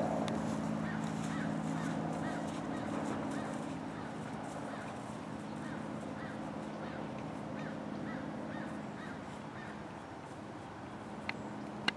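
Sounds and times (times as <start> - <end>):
steady low hum: 0.0 - 11.9
bird calling: 0.7 - 11.9.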